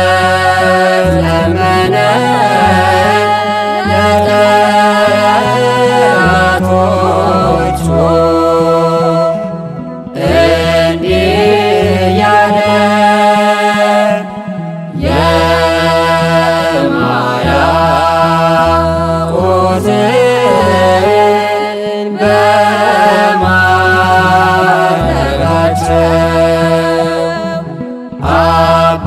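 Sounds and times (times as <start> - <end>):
church choir singing a hymn: 0.0 - 29.0.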